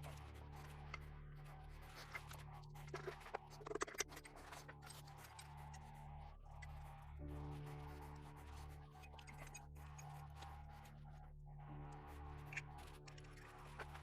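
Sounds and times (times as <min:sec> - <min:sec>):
faint clicks and scrapes: 0:00.0 - 0:14.0
low drone music: 0:00.0 - 0:14.0.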